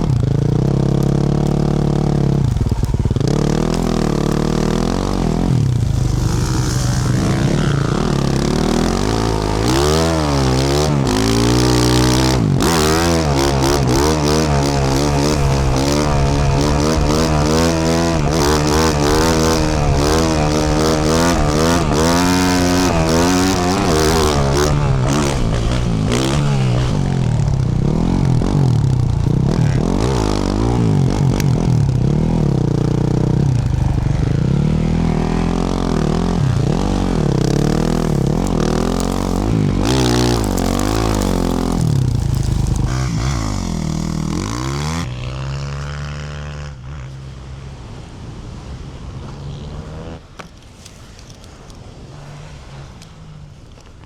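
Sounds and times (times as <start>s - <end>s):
dirt bike engine revving: 0.0s - 47.4s, 49.2s - 50.4s.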